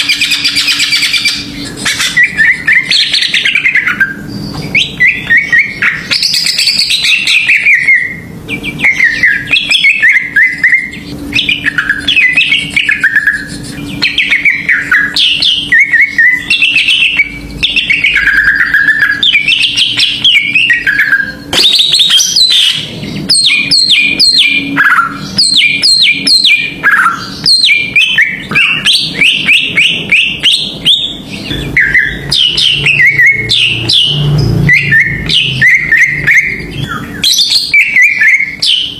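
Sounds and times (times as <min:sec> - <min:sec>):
bird chattering: 0:00.0 - 0:38.9
bird singing whistled slurs: 0:00.0 - 0:38.9.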